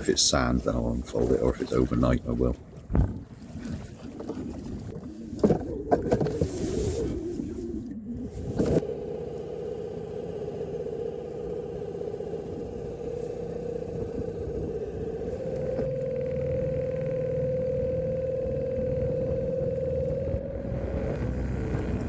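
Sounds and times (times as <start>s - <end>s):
outboard motor humming: 0.0s - 22.0s.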